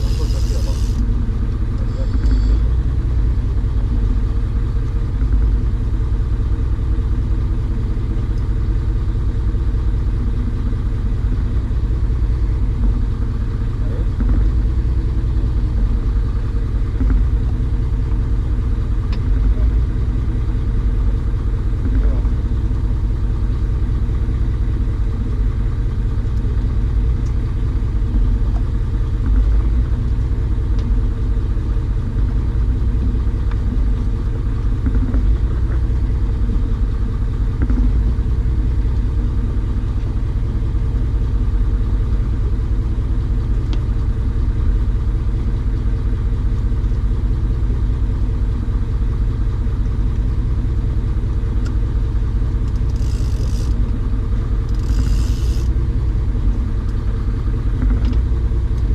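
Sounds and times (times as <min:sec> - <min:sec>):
engine running with low rumble: 0:00.0 - 0:58.9.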